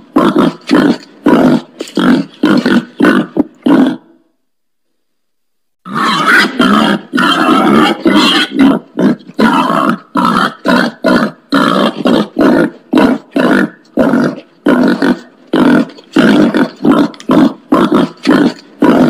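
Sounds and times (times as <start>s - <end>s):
wild pig grunting: 0.0s - 4.2s, 5.9s - 19.0s.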